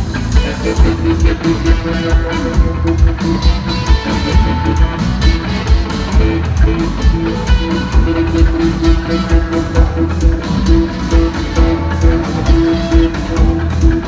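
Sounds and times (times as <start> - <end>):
electric guitar: 0.0 - 14.0
kick drum and bass beat: 0.0 - 14.0.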